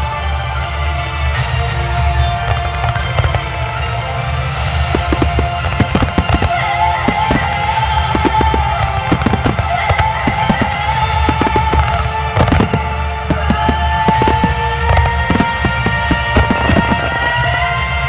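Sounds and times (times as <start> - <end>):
music with long held notes: 0.0 - 18.0
fireworks bursting with bangs: 1.2 - 18.0.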